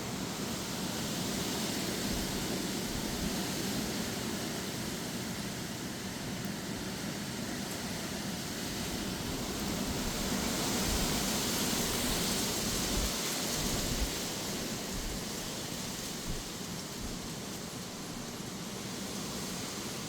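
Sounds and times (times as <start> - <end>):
gusty wind with rain: 0.0 - 20.0.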